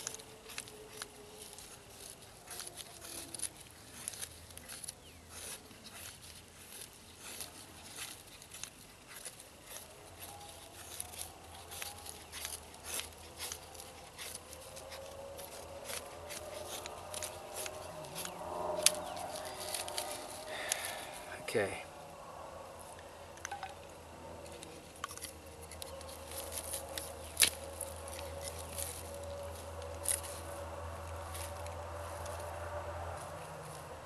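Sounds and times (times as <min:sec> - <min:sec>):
knife scraping dry wood: 0:00.0 - 0:21.4, 0:22.6 - 0:34.0.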